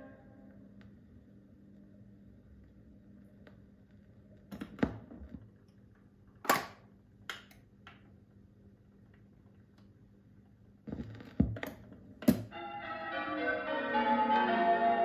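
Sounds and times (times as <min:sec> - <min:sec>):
faint record player hum: 0:00.0 - 0:15.0.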